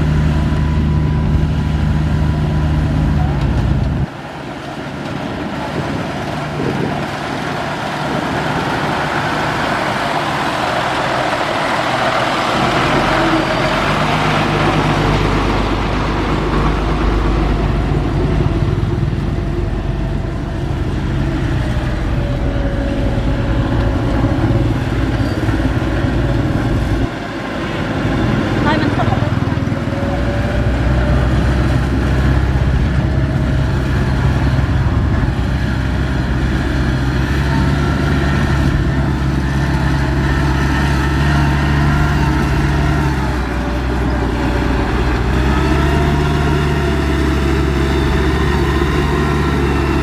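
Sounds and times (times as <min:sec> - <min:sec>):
heavy diesel engine rumbling: 0:00.0 - 0:50.0.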